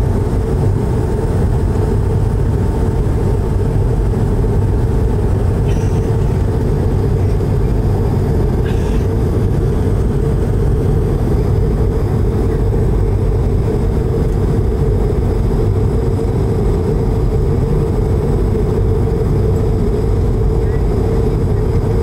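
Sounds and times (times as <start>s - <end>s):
jet engine roar in cabin: 0.0s - 22.0s.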